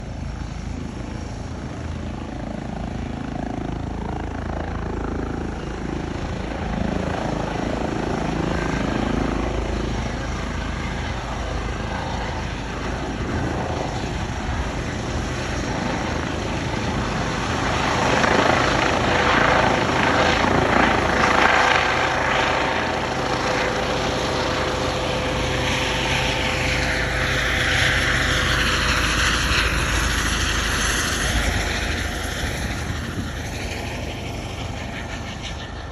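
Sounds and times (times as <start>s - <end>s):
helicopter engine and rotor: 0.0s - 35.9s.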